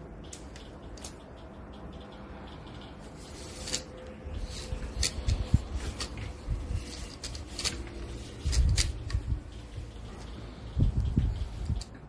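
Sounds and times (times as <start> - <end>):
sharp plastic clicks: 0.0 - 12.0.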